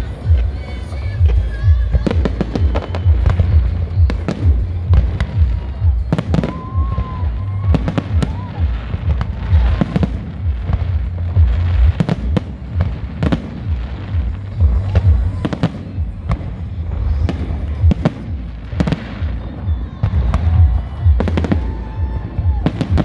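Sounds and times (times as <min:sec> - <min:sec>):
continuous low rumble: 0:00.0 - 0:23.0.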